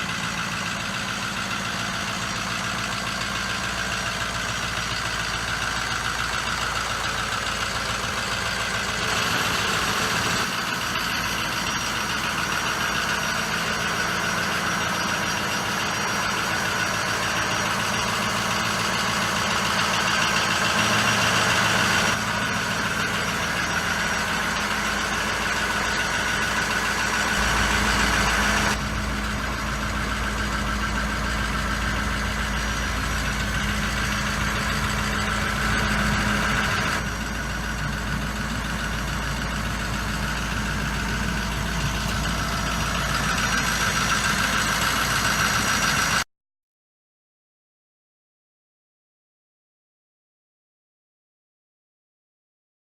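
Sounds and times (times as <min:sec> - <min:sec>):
diesel engine idling: 0:00.0 - 0:46.2.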